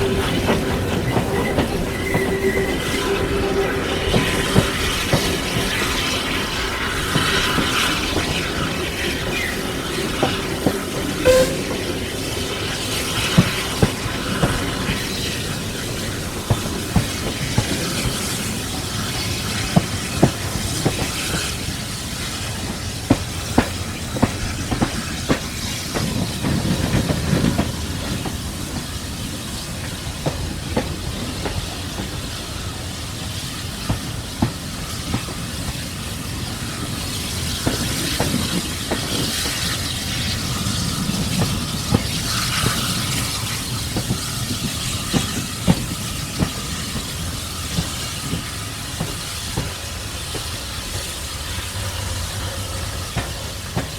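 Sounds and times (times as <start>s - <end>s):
steam hiss: 0.0s - 53.9s
train rumble: 0.0s - 53.9s.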